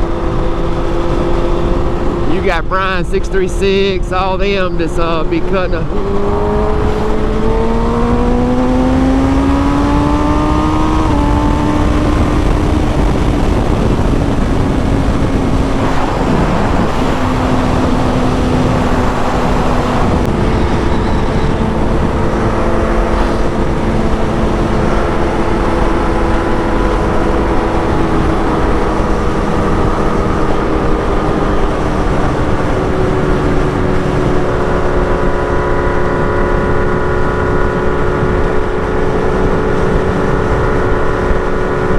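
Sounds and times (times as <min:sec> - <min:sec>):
motorcycle engine accelerating: 0:00.0 - 0:41.9
wind rush on microphone: 0:00.0 - 0:41.9.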